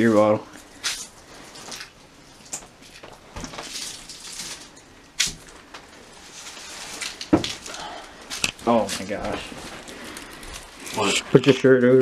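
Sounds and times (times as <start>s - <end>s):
footsteps crunching on debris: 0.0s - 11.2s.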